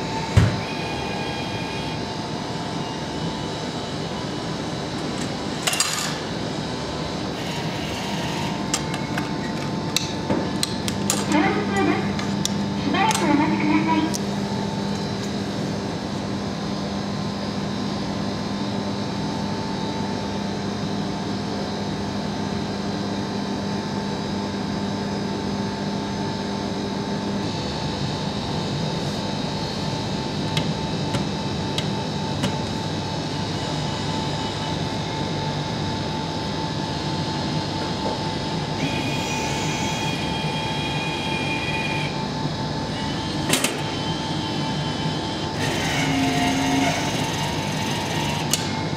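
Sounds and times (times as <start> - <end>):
vending machine hum and whir: 0.0 - 48.9.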